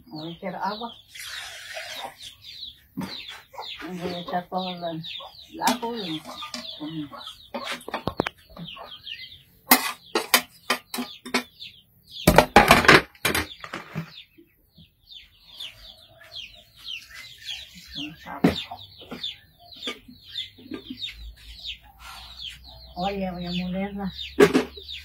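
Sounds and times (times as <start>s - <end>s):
chickens clucking: 0.0s - 25.0s
small birds chirping: 0.0s - 25.0s.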